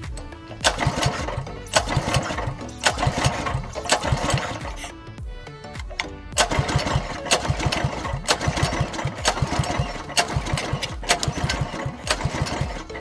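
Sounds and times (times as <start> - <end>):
small engine pull-start cranking: 0.0 - 4.9, 5.8 - 13.0.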